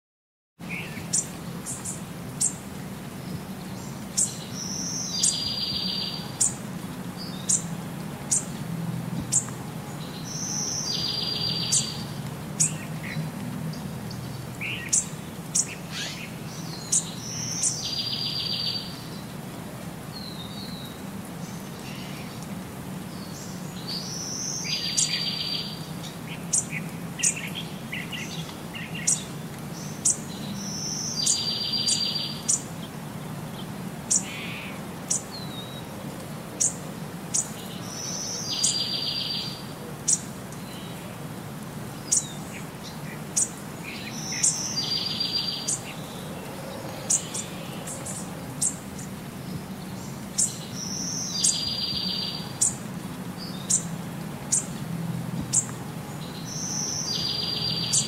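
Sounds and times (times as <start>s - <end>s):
small birds chirping: 0.6s - 8.6s, 9.2s - 19.4s, 20.1s - 35.9s, 36.5s - 41.2s, 41.9s - 58.0s.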